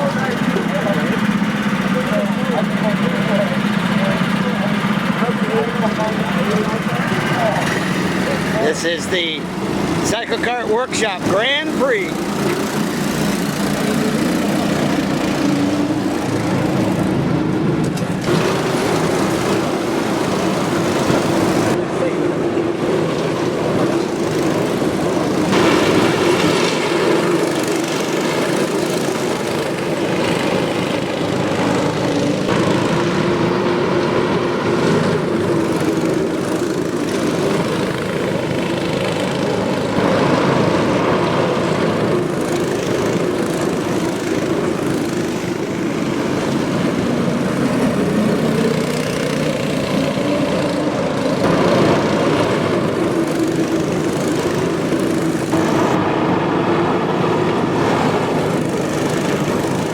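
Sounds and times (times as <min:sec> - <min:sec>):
small kart engines racing: 0:00.0 - 0:59.9.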